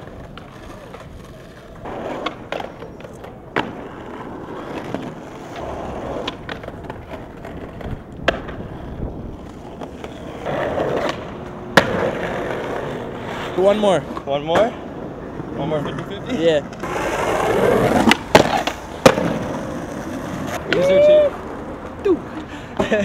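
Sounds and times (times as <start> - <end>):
skateboard wooden clacks: 0.0 - 13.5, 15.8 - 22.0
skateboard wheels rolling on stone: 0.0 - 23.0.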